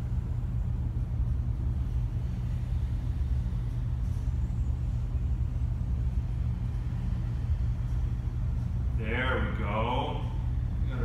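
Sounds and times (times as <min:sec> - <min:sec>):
air conditioning low rumble: 0:00.0 - 0:11.0.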